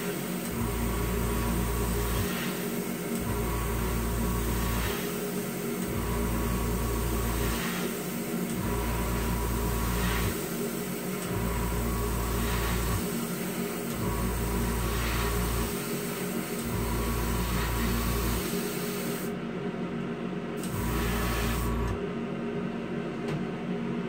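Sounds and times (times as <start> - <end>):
compressor and exhaust fan hum: 0.0 - 24.0.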